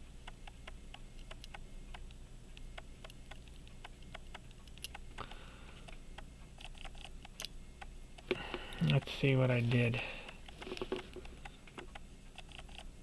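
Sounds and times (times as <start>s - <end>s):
pocket watch ticking: 0.2s - 9.2s, 9.9s - 13.0s.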